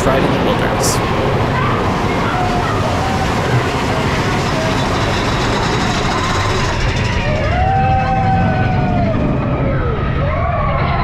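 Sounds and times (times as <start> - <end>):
roller coaster rushing on track: 0.0 - 11.0
riders whooping: 1.2 - 11.0.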